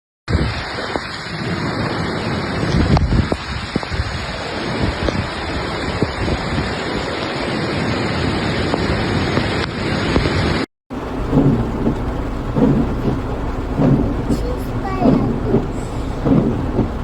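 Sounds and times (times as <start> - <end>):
heavy rain pouring: 0.3 - 17.0.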